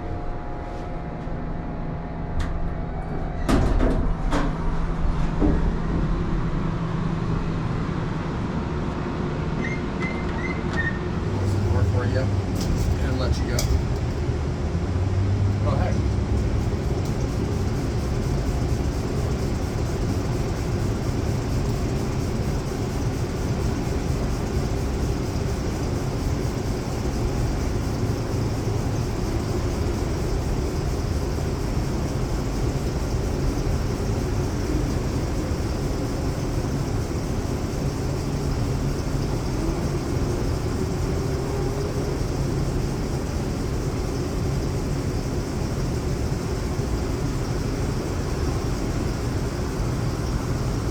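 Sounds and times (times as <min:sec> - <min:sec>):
elevator machinery drone: 0:00.0 - 0:50.9
faint humming tones: 0:04.6 - 0:50.9.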